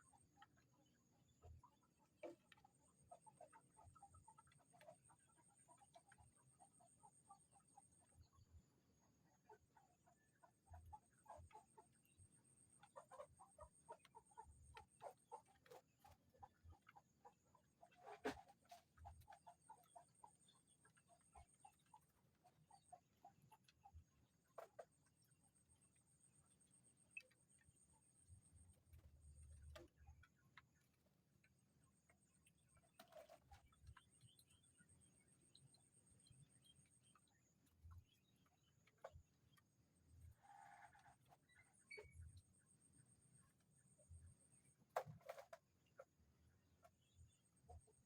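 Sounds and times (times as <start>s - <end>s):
chickens clucking softly: 0.0s - 48.0s
faint clicks and ticks: 0.0s - 48.0s.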